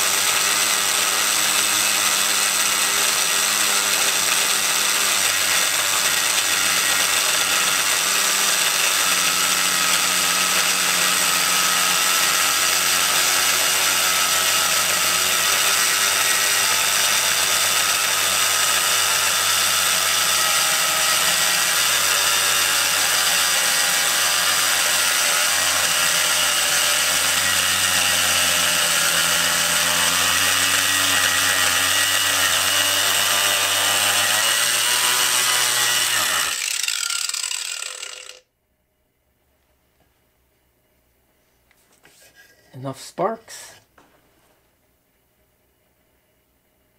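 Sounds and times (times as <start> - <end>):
angle grinder cutting steel: 0.0 - 38.4.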